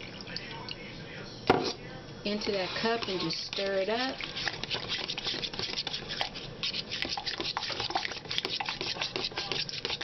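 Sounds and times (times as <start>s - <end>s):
spoon scraping plastic cup: 1.6s - 10.0s.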